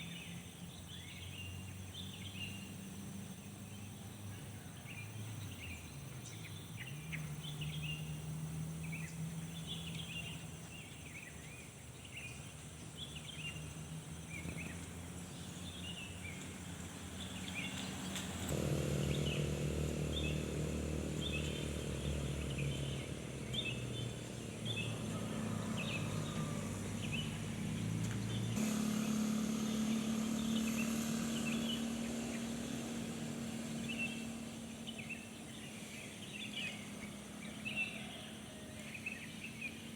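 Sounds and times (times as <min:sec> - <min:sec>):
small birds chirping: 0:00.0 - 0:28.6, 0:29.5 - 0:39.9.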